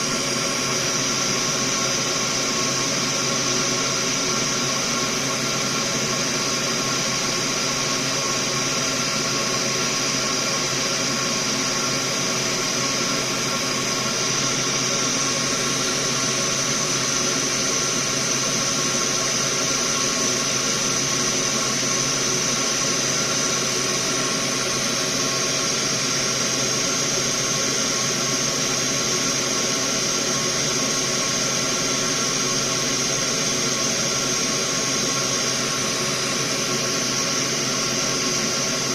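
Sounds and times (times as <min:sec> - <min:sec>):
fume extractor fan hissing: 0:00.0 - 0:38.9.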